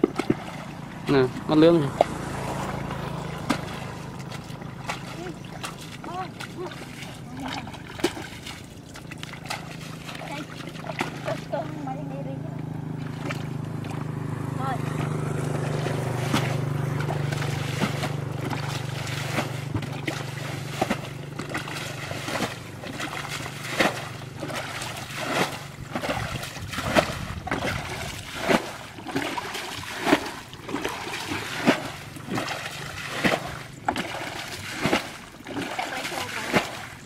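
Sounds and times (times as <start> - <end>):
low steady hum: 0.0 - 37.0
water splashing from ditch: 0.0 - 37.0.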